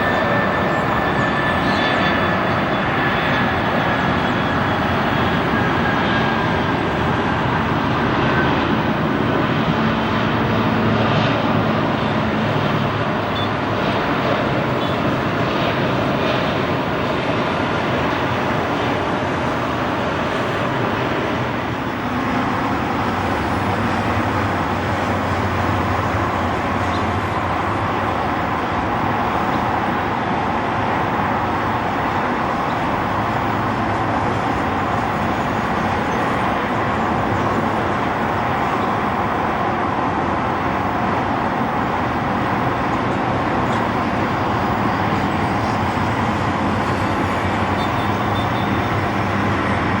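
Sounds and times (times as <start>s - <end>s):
jet engines running: 0.0s - 50.0s.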